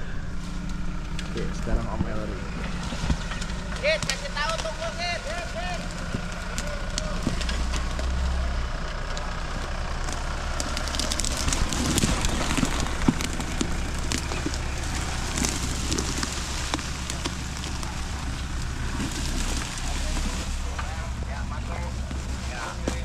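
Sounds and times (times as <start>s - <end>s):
continuous crackling: 0.0s - 23.0s
engine running at low revs: 0.0s - 23.0s.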